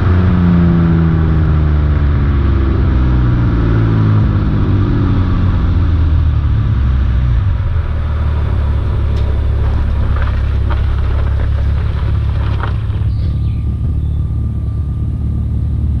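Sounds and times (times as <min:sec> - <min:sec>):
car engine droning at low revs: 0:00.0 - 0:16.0.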